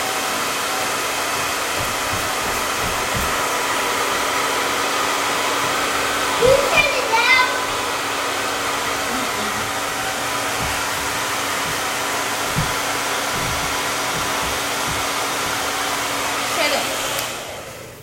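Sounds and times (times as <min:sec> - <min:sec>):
blow dryer humming: 0:00.0 - 0:18.0.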